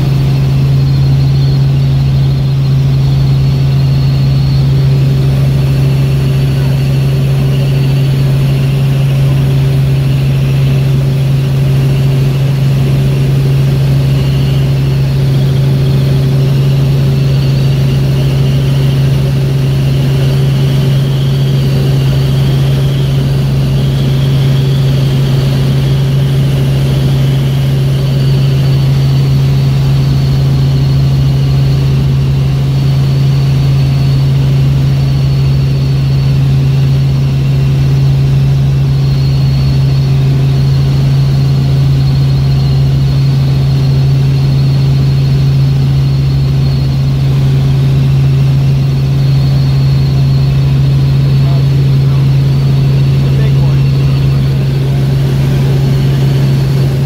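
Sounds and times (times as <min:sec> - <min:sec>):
helicopter engine and rotors droning: 0:00.0 - 0:57.0
high whine: 0:00.0 - 0:57.0.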